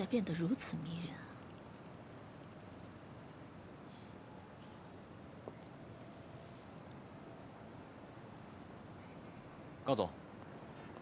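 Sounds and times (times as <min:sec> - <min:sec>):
background hiss: 0:00.0 - 0:11.0
high pulsing insect trill: 0:00.0 - 0:11.0.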